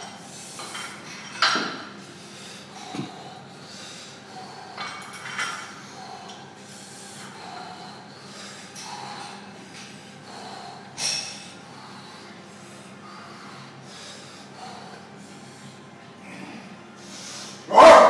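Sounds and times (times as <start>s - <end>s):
man breathing forcefully and snorting: 1.8s - 18.0s.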